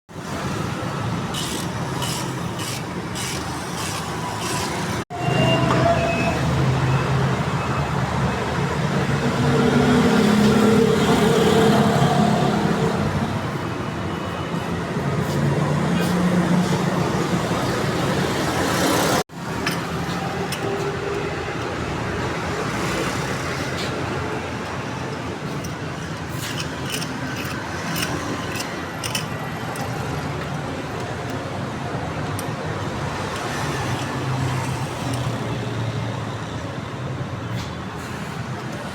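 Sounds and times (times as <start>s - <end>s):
street traffic noise: 0.1s - 38.9s.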